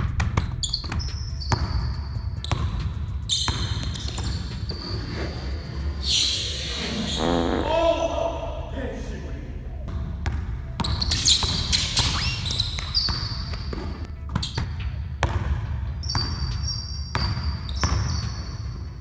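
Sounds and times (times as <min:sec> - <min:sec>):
sneakers squeaking on floor: 0:00.4 - 0:07.7, 0:09.9 - 0:19.0.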